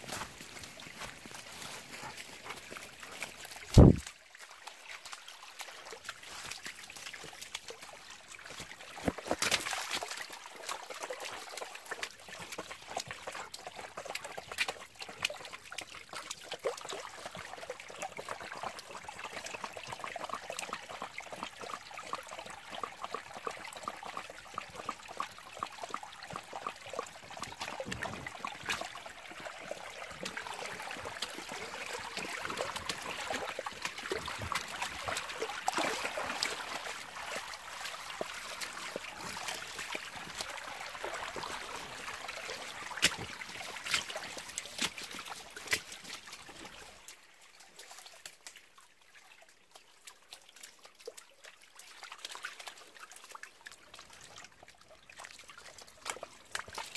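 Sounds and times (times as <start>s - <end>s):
dogs splashing through water: 0.0s - 56.9s
water trickling along concrete: 0.0s - 56.9s.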